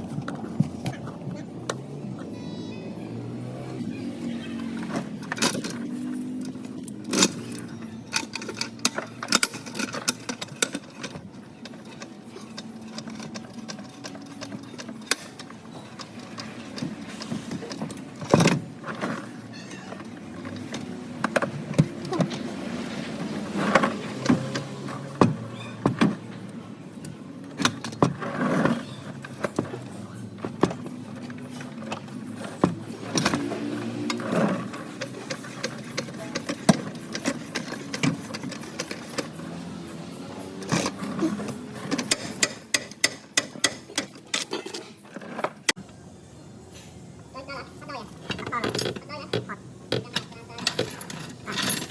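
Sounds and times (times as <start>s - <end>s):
metal tools clinking: 3.8s - 45.7s, 48.1s - 51.9s.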